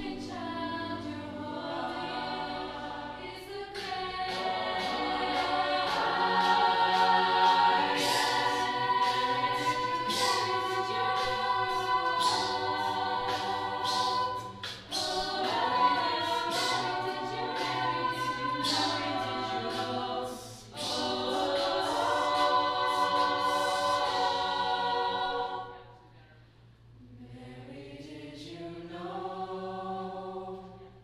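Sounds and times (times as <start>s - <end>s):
a cappella choir singing: 0.0s - 26.4s, 27.0s - 31.0s.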